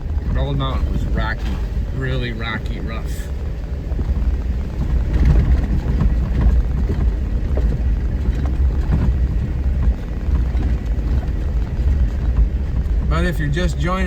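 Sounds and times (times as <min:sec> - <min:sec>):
knocks and rattles: 0:00.0 - 0:14.0
vehicle engine and tyres rumbling: 0:00.0 - 0:14.0.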